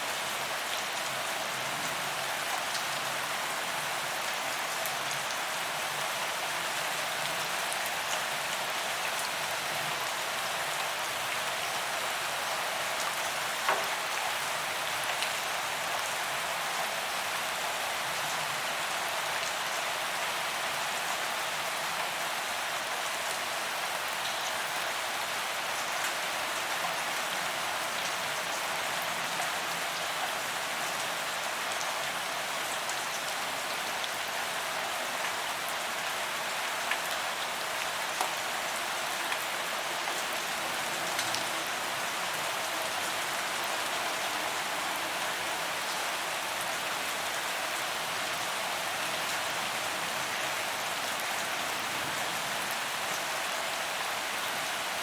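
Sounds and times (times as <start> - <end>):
rain pattering on pavement: 0.1 - 55.0.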